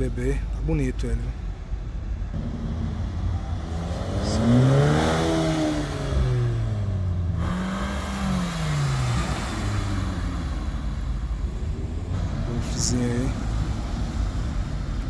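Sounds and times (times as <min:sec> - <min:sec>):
car engine revving: 0:02.3 - 0:15.0.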